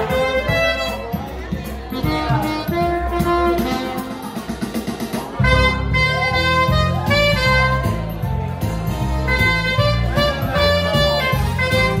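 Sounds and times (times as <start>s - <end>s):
saxophone melody: 0.0s - 4.8s, 5.4s - 12.0s
bass and drum beat: 0.0s - 12.0s.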